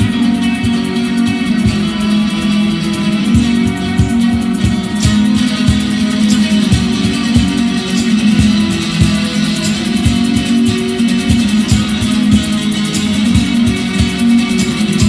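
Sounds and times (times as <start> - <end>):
guitars strummed and plucked: 0.0 - 15.0.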